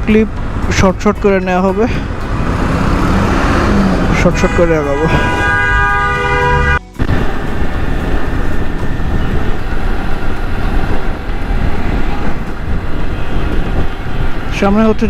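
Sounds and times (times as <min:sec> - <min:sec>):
motorcycle road noise: 0:00.0 - 0:15.0
rushing wind: 0:01.9 - 0:15.0.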